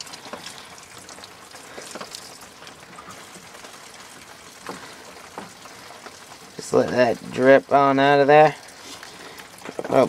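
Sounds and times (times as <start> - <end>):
coolant dripping and spattering: 0.0 - 10.0.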